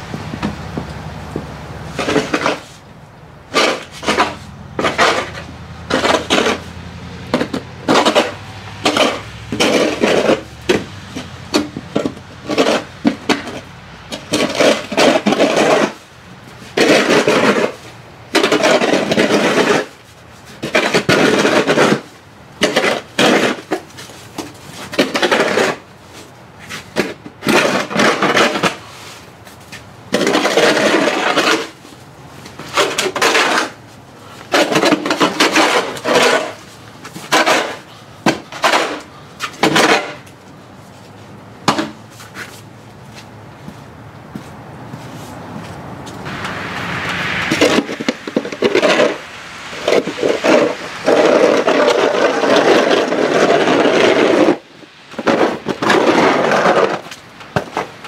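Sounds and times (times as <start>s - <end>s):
snow shovel scraping pavement: 0.0s - 58.0s.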